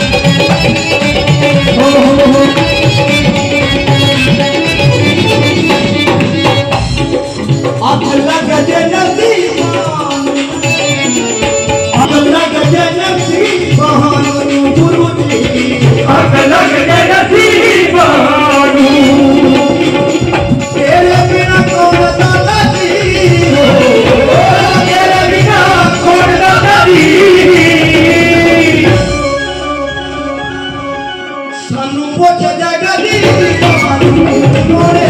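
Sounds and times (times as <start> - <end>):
hand drum beat: 0.0 - 18.0, 18.8 - 29.2
men singing into microphones: 0.0 - 30.0, 31.6 - 35.0
harmonium: 0.0 - 35.0.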